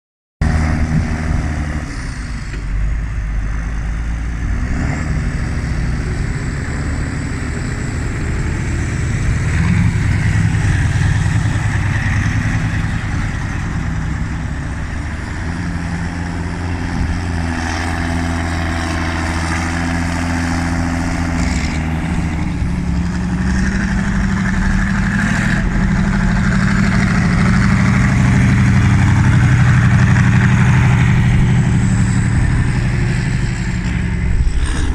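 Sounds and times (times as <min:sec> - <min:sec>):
tractor engines with deep exhaust: 0:00.4 - 0:34.9.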